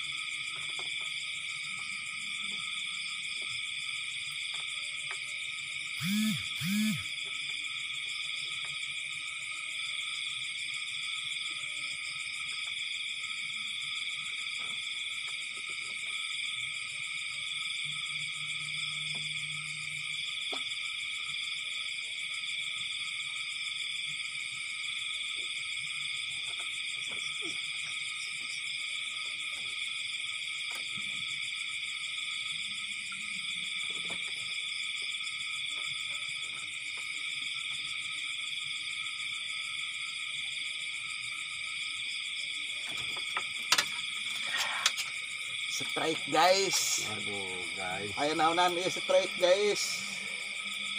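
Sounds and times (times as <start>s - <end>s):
insects and frogs trilling: 0.0s - 50.9s.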